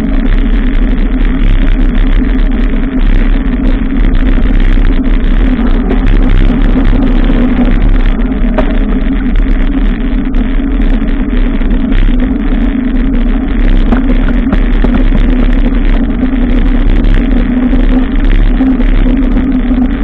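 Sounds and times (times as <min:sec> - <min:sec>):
road noise: 0:00.0 - 0:20.0
wind rushing: 0:00.0 - 0:20.0.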